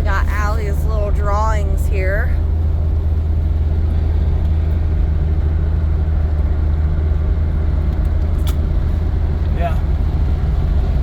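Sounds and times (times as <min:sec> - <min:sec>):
car engine and exhaust rumble: 0:00.0 - 0:11.0.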